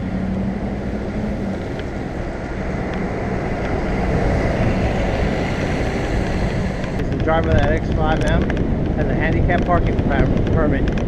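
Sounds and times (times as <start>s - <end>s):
street traffic: 0.0s - 11.0s
wind rushing over microphone: 0.0s - 11.0s.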